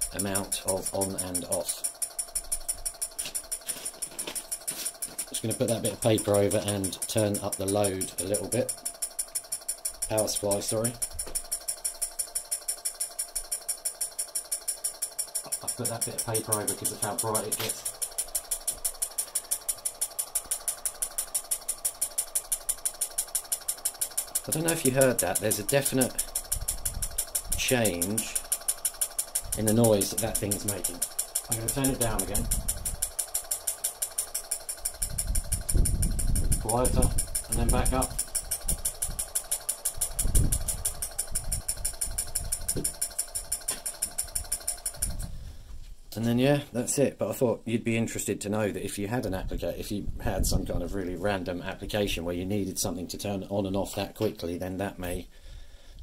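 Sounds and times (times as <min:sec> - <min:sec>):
relay clicking rapidly: 0:00.0 - 0:45.4
power supply hum: 0:00.0 - 0:47.0.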